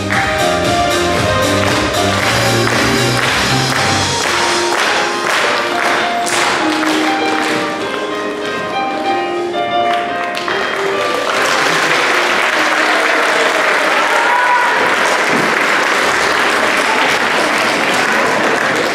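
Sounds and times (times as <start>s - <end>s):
audience applauding: 0.0s - 7.8s, 9.9s - 18.9s
recorded music: 0.0s - 16.5s.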